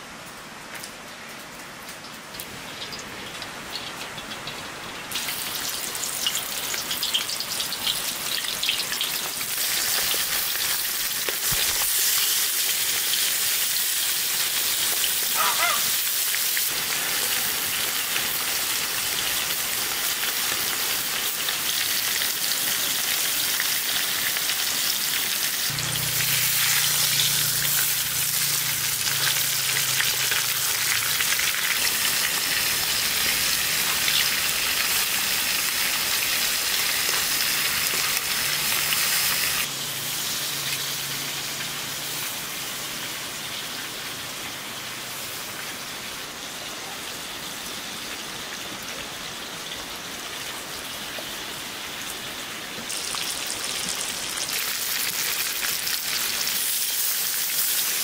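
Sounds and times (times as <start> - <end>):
meat sizzling in hot oil: 2.4 - 45.7, 52.7 - 58.0.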